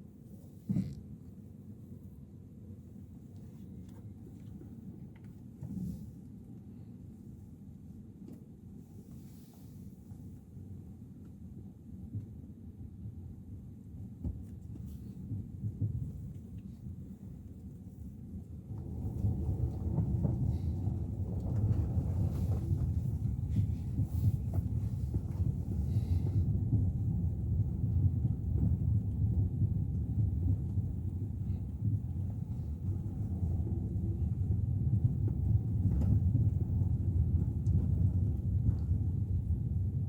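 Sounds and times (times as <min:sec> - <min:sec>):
road and engine rumble in car cabin: 0:00.0 - 0:40.0.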